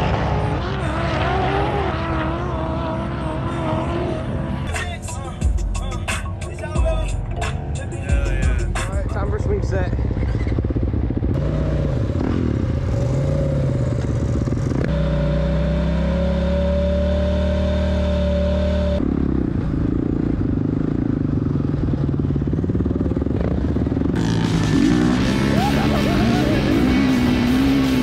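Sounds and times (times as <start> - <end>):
dirt bike engine: 0.0 - 28.0
off-road vehicle engine steady: 0.0 - 28.0.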